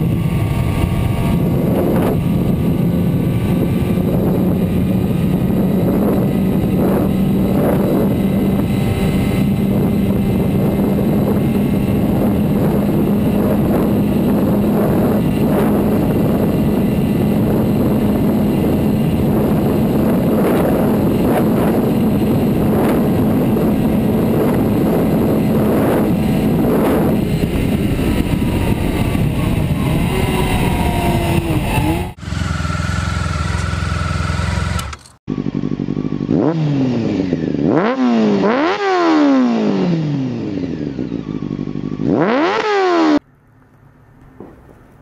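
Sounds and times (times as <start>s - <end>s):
motorcycle engine at high revs: 0.0s - 43.2s
motorcycle engine revving: 0.0s - 45.0s.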